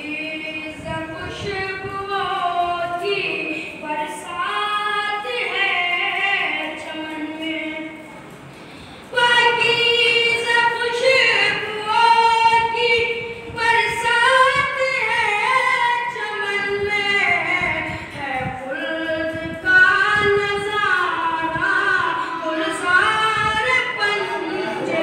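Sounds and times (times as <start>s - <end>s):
boy chanting a lament: 0.0s - 8.0s, 9.2s - 25.0s.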